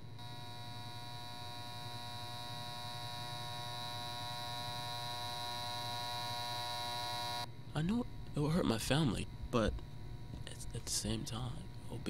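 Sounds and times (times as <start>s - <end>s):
high whine: 0.0s - 9.8s
electrical hum: 0.0s - 12.0s.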